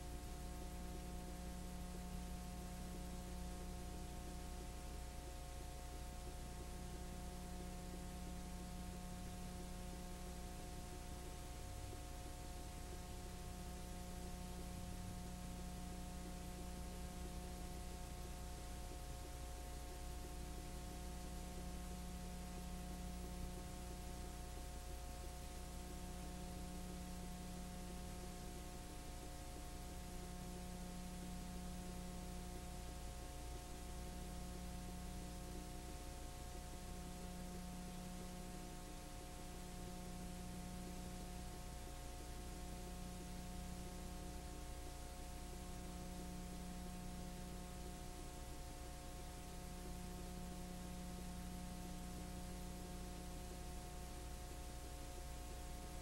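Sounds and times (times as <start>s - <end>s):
electrical hum and hiss: 0.0s - 56.0s.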